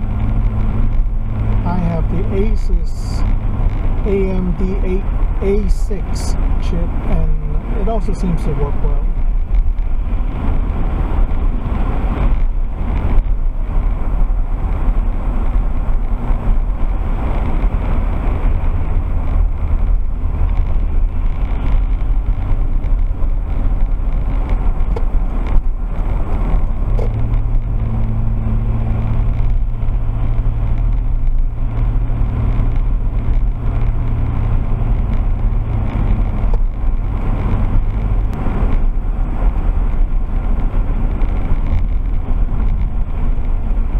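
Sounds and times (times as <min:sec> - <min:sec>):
car engine hum: 0:00.0 - 0:43.9
road noise inside car: 0:00.0 - 0:43.9.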